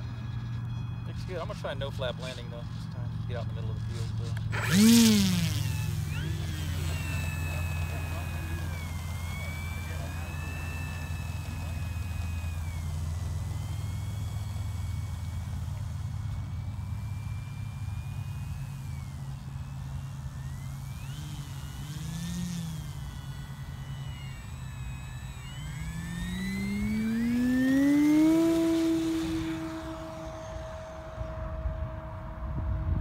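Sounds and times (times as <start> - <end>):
electric motor and propeller whining: 0.0 - 33.0
steady low hum: 0.0 - 33.0.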